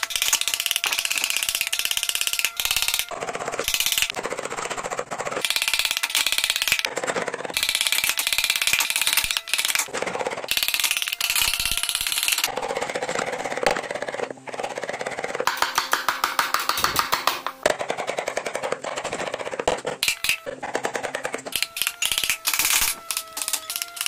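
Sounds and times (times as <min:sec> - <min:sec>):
carving gouges cutting wood: 0:00.0 - 0:24.0.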